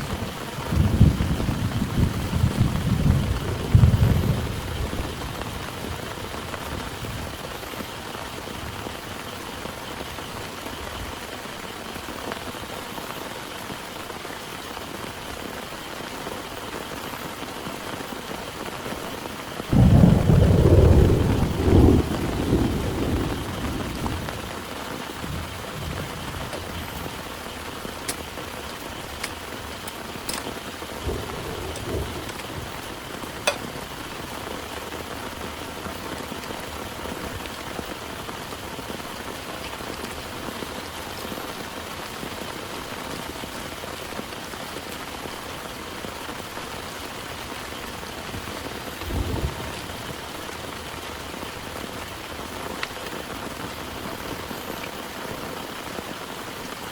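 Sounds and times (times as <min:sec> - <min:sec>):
thunder rumbling: 0:00.0 - 0:12.8, 0:19.1 - 0:54.6
heavy rain hissing: 0:00.0 - 0:56.9.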